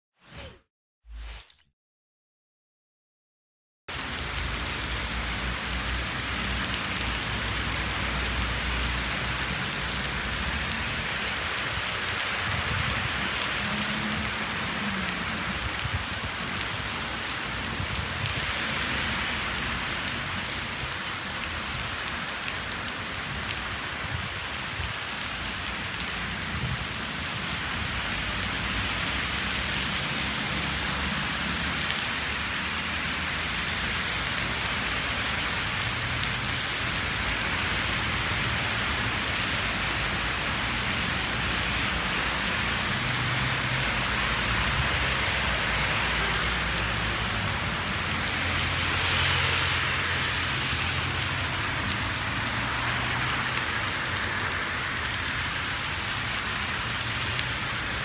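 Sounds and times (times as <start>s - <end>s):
heavy rain on street: 3.9s - 58.0s
low traffic rumble: 3.9s - 58.0s.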